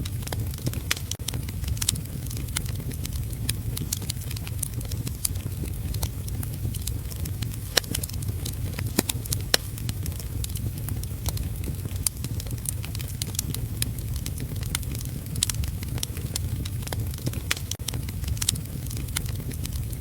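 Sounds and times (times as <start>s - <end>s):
low rumble of fire: 0.0s - 20.0s
wood fire crackling and popping: 0.0s - 20.0s.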